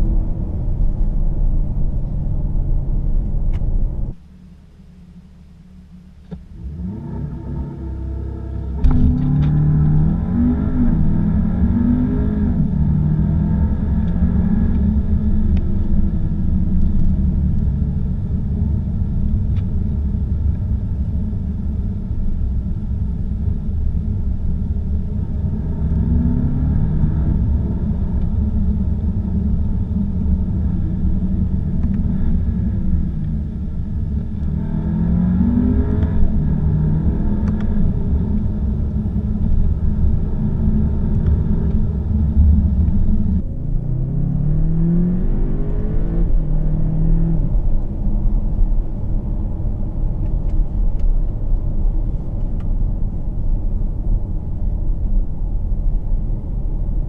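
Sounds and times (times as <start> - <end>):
car engine accelerating: 0.0 - 54.8
low road rumble: 0.0 - 57.0.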